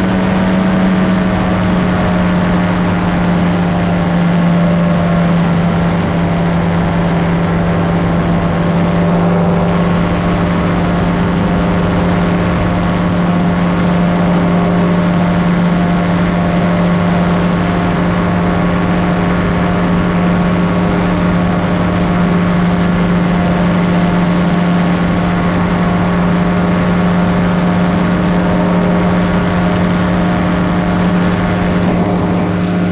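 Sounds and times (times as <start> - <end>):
engine and propeller running: 0.0 - 32.9.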